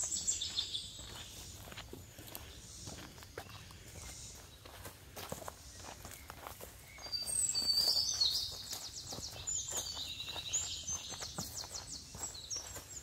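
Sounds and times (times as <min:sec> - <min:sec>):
birds chirping and trilling: 0:00.0 - 0:13.0
footsteps on rocky dirt trail: 0:00.0 - 0:13.0.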